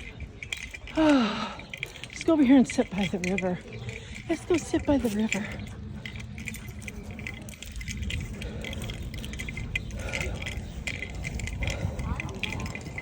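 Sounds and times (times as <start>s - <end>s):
light clicks and rattles: 0.0s - 13.0s
wind rumble on microphone: 0.0s - 13.0s.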